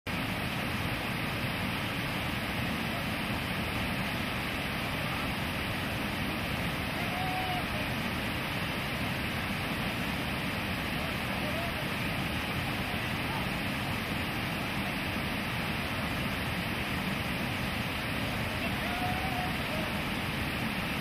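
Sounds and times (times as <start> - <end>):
whitewater rapids roaring: 0.1 - 21.0.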